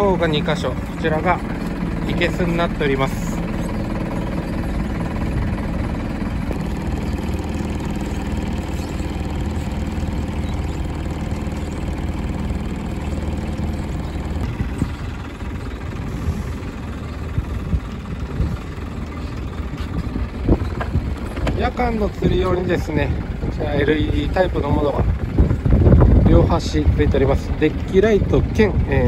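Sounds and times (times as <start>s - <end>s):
boat diesel engine idling: 0.0s - 29.0s.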